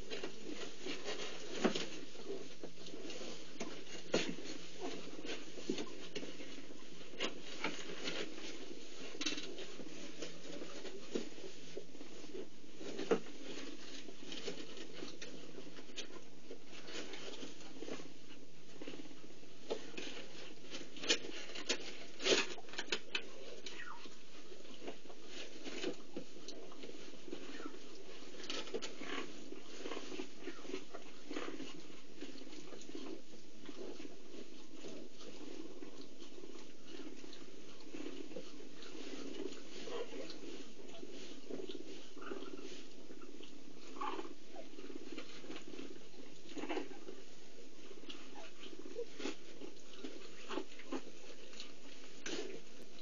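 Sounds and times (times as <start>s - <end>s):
background hum: 0.0s - 53.0s.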